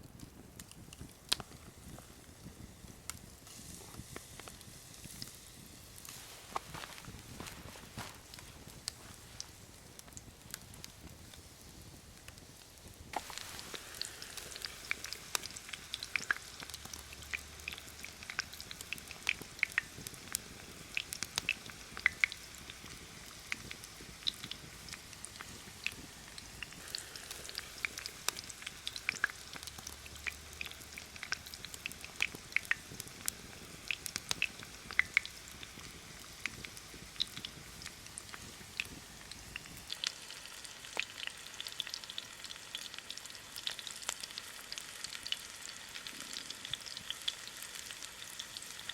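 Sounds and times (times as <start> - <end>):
chicken deep-frying in oil: 0.0 - 48.9.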